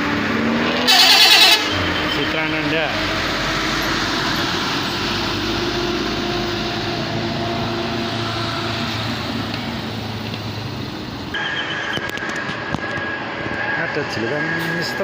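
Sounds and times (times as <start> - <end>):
bus engine droning: 0.0 - 15.0
road noise: 0.0 - 15.0.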